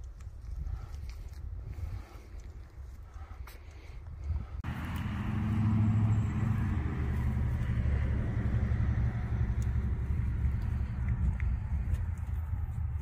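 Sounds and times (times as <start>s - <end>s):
engine rumbling: 1.6s - 13.0s.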